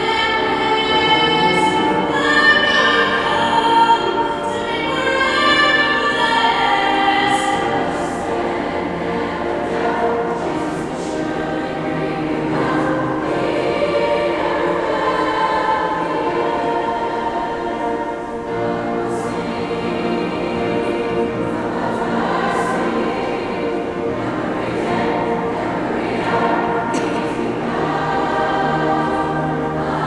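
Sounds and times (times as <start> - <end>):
choir singing long held notes: 0.0 - 30.0.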